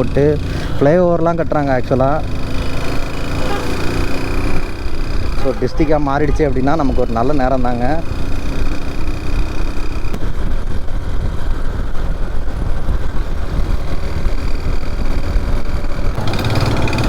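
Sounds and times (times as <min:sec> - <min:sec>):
motorcycle engine at speed: 0:00.0 - 0:17.0
road noise: 0:00.0 - 0:17.0.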